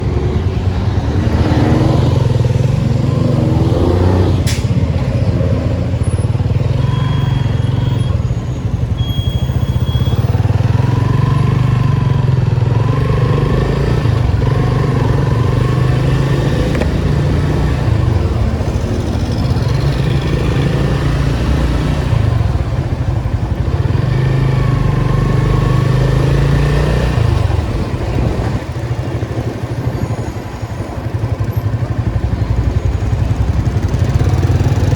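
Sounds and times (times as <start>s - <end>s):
car engine running loudly: 0.0s - 34.9s.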